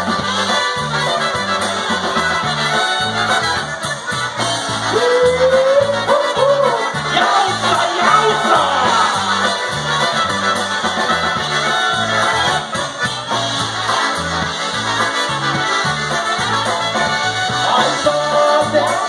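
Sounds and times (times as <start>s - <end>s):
accordion: 0.0s - 19.0s
oom-pah bass line: 0.0s - 19.0s
trumpets: 0.0s - 19.0s.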